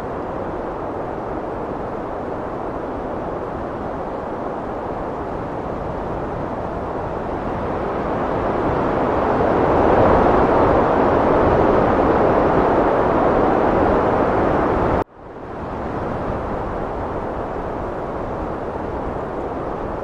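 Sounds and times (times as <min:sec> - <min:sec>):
heavy wind rushing: 0:00.0 - 0:20.0.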